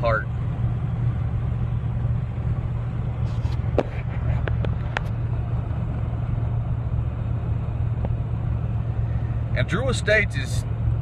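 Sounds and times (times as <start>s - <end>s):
vehicle engine rumble from inside cab: 0.0s - 11.0s.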